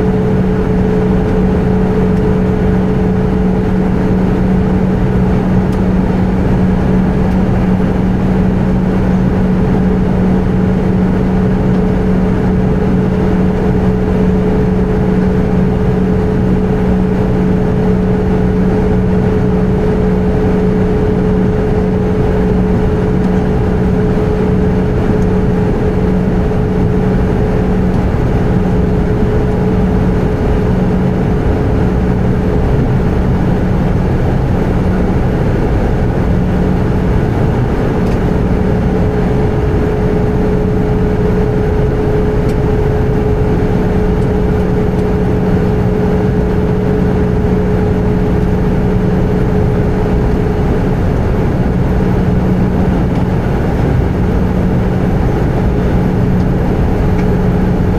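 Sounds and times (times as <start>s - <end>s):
aircraft cabin engine roar: 0.0s - 57.9s.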